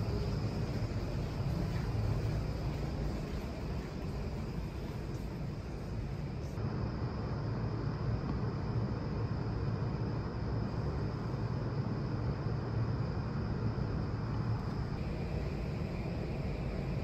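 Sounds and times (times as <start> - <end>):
building machinery hum: 0.0 - 17.0
faint higher hiss: 0.0 - 17.0.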